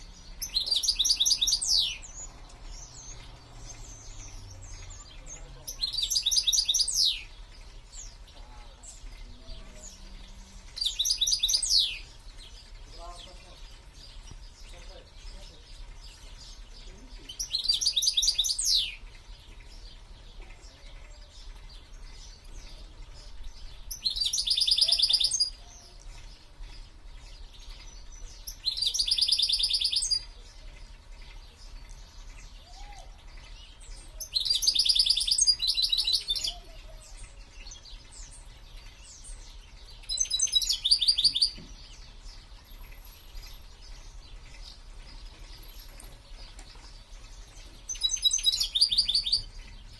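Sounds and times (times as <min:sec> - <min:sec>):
songbird trilling: 0:00.0 - 0:49.9.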